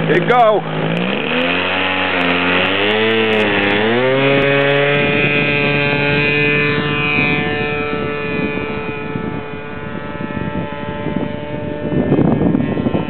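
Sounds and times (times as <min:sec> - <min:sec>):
model airplane engine at full throttle: 0:00.0 - 0:13.0.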